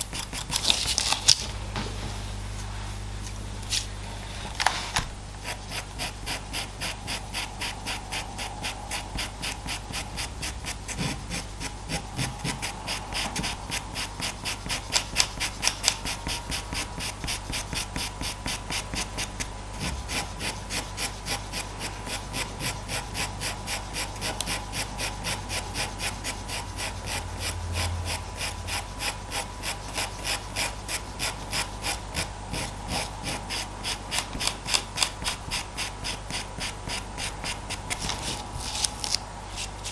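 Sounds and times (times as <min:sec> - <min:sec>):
pencil scratching on paper: 0:05.4 - 0:39.9.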